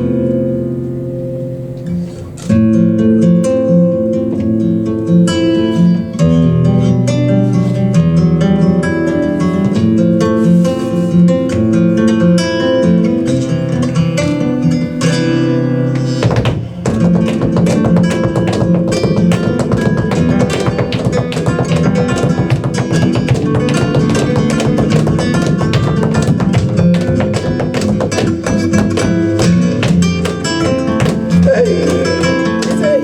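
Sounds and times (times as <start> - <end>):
flamenco guitar: 0.0 - 33.0.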